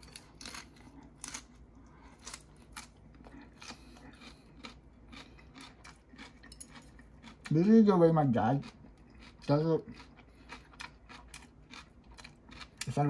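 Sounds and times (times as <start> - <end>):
chewing crunchy cabbage: 0.0 - 13.0.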